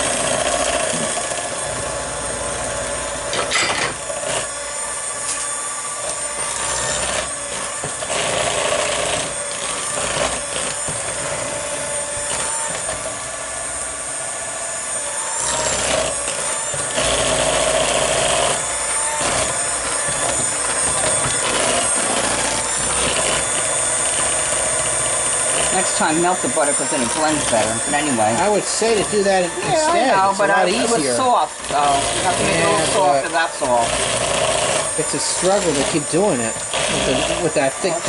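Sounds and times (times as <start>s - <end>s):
electric hand mixer running: 0.0s - 38.0s.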